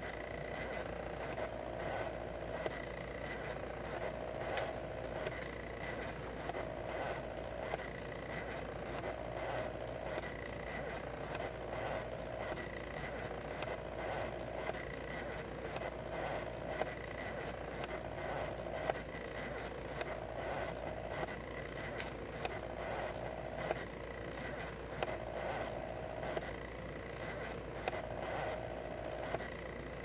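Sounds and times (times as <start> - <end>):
faint ticks: 0.0 - 26.6
stepper motors whining: 0.0 - 30.0.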